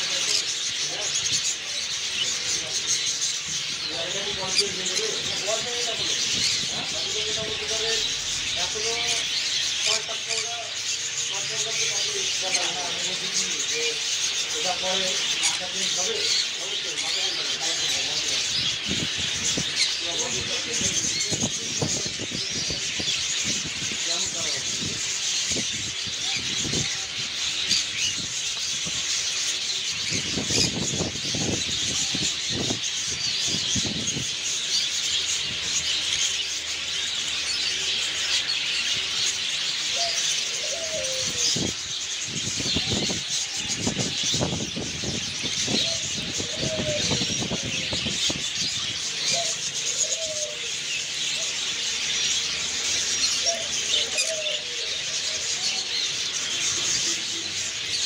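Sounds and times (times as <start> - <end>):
caged birds chirping: 0.0 - 58.0
lower bird calls: 0.0 - 58.0.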